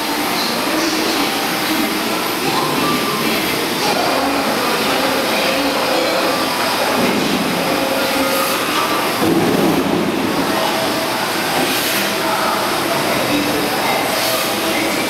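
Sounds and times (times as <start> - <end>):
industrial machinery running: 0.0 - 15.0.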